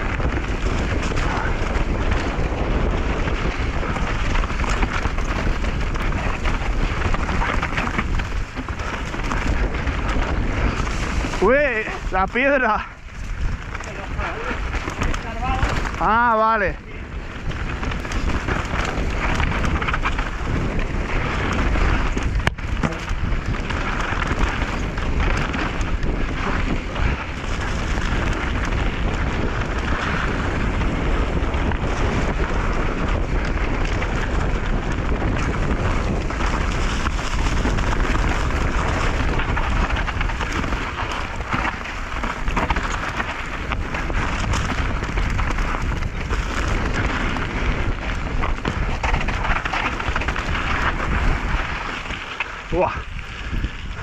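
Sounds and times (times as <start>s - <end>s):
tyres over dirt and rock: 0.0s - 54.0s
wind on microphone: 0.0s - 54.0s.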